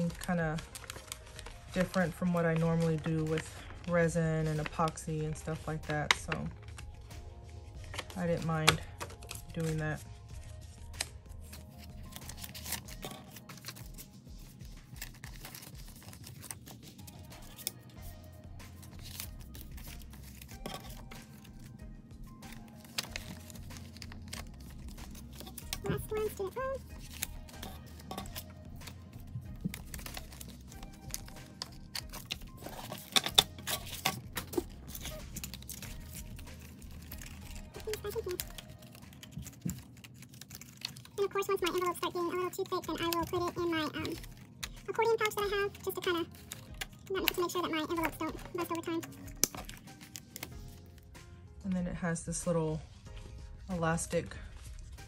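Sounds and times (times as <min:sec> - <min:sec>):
plastic envelopes crinkling: 0:00.0 - 0:51.0
paper bills rustling: 0:00.0 - 0:51.1
faint background music: 0:00.0 - 0:55.0.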